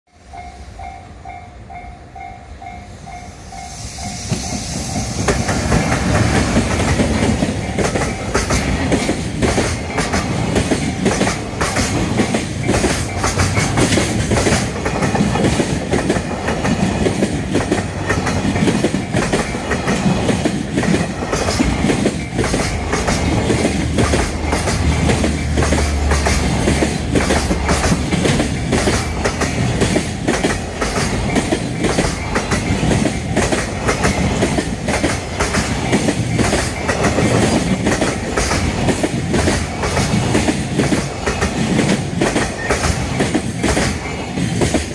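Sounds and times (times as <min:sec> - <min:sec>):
train wheels clattering: 0:03.6 - 0:44.9.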